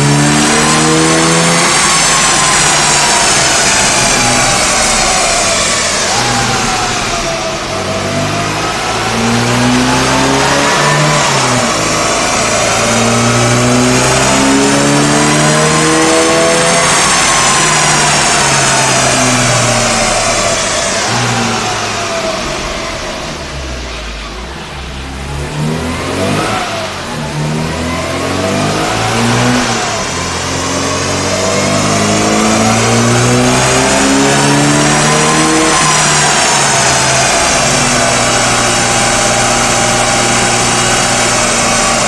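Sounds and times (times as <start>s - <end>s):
car engine revving under load: 0.0s - 42.0s
high whine: 0.0s - 42.0s.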